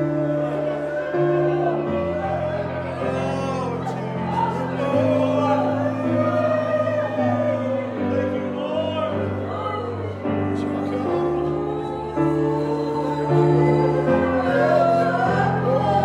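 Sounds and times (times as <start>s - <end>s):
congregation singing: 0.0s - 16.0s
sustained chords: 0.0s - 16.0s.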